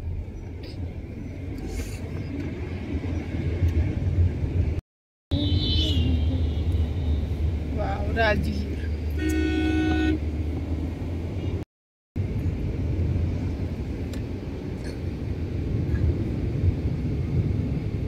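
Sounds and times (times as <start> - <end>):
road vehicle rumble from inside: 0.0 - 18.0.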